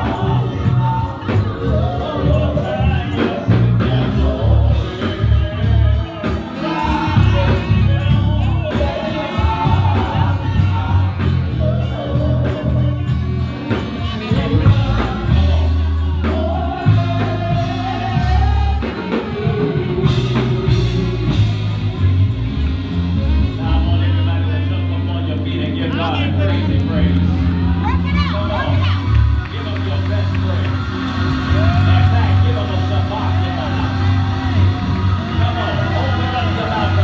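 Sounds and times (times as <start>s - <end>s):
stepping bass line: 0.0s - 24.4s, 25.9s - 37.0s
band playing: 0.0s - 37.0s
person singing gospel: 0.0s - 37.0s.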